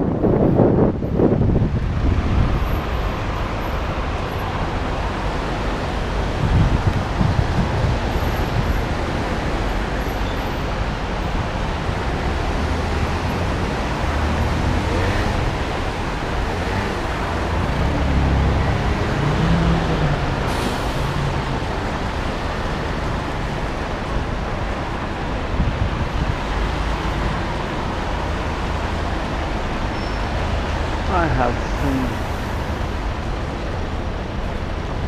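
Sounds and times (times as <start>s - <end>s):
motor vehicle engines: 0.0s - 35.0s
wind and tyre noise: 0.0s - 35.0s.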